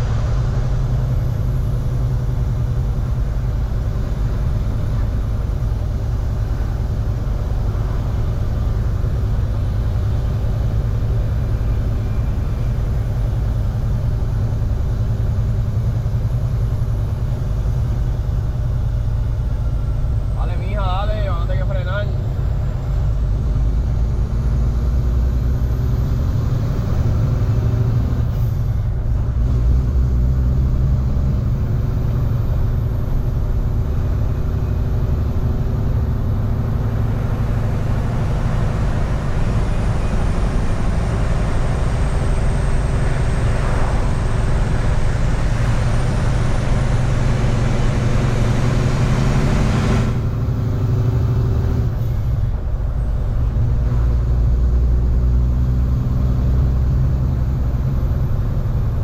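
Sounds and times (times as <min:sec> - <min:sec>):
road noise: 0:00.0 - 0:59.0
truck diesel engine rumble: 0:00.0 - 0:59.0.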